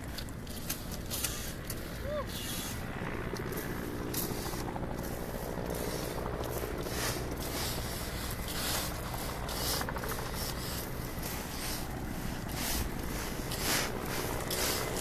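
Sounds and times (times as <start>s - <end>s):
rustling and scraping of brush: 0.0s - 15.0s
steady low rumble: 0.0s - 15.0s.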